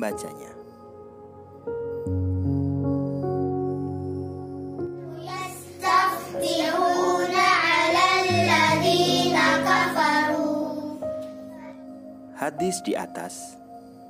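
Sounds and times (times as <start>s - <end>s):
soft background music chords: 0.0s - 14.0s.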